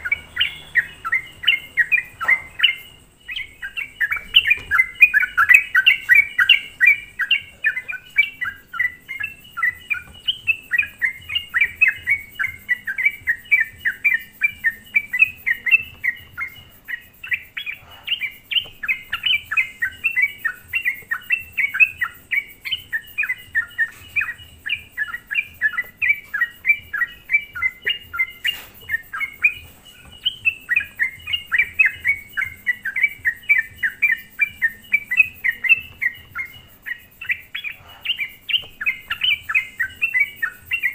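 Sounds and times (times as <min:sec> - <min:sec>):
bird bubbly chirping song: 0:00.0 - 0:40.9.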